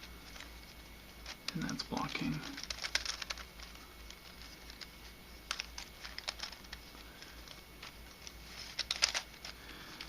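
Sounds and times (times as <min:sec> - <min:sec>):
puzzle pieces clicking and scraping: 0:01.2 - 0:10.0.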